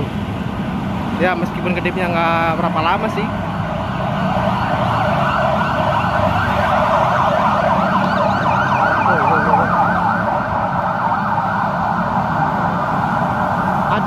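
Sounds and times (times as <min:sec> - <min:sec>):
street traffic rumble: 0:00.0 - 0:14.0
ambulance siren yelping: 0:02.5 - 0:14.0.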